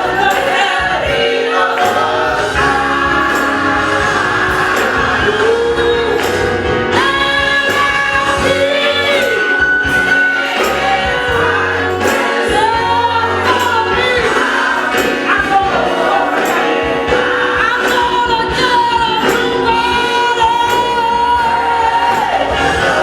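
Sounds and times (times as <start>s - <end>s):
gospel choir singing: 0.0s - 23.0s
instrumental accompaniment: 0.0s - 23.0s.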